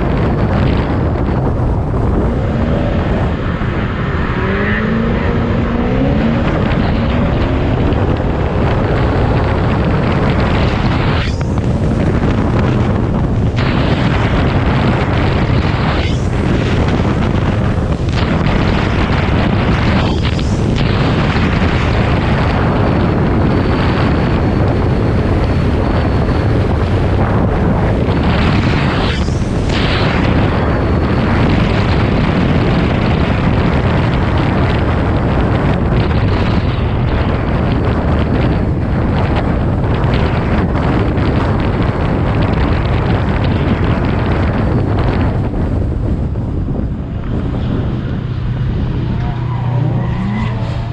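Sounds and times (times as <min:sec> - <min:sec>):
car engine running hard: 0:00.0 - 0:50.9
wind buffeting microphone: 0:00.0 - 0:50.9.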